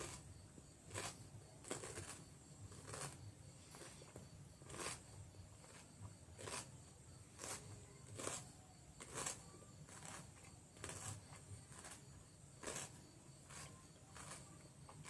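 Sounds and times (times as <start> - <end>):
cucumber being chewed: 0.0 - 15.0.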